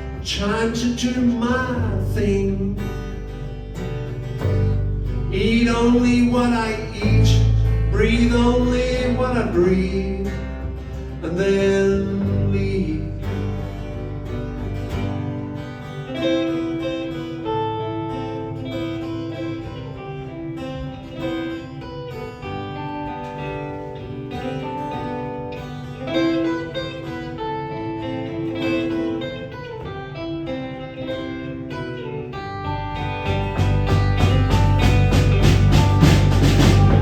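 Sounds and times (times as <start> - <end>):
bass guitar: 0.0 - 37.0
picked guitar melody: 0.0 - 37.0
strummed guitar: 0.0 - 37.0.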